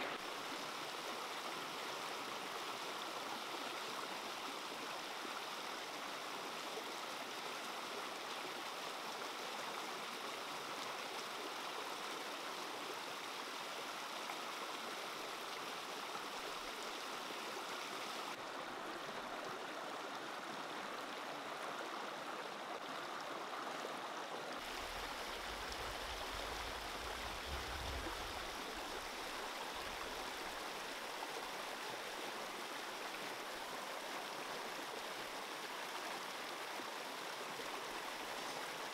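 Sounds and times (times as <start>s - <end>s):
stream rushing over rapids: 0.0s - 38.9s.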